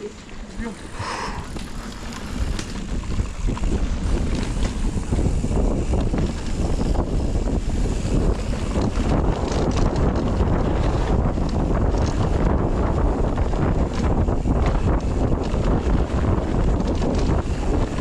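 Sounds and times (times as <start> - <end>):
wind rushing over microphone: 0.0 - 18.0
bike knocks and rattles: 1.5 - 18.0.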